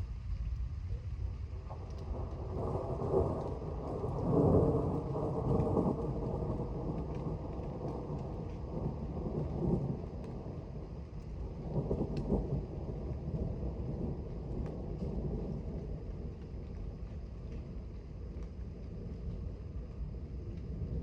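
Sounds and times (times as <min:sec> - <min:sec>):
light rain ticking: 0:00.0 - 0:21.0
thunder rumbling: 0:00.0 - 0:21.0.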